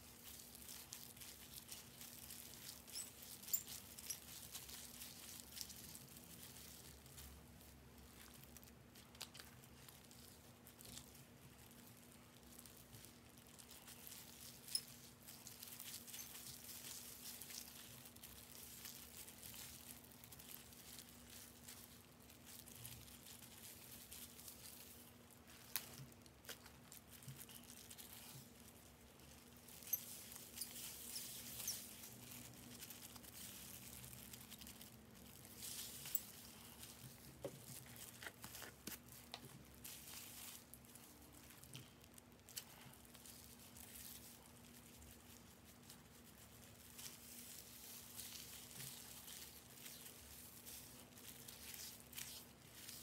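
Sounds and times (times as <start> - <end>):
gloved hands rustling and crinkling: 0.0 - 53.0.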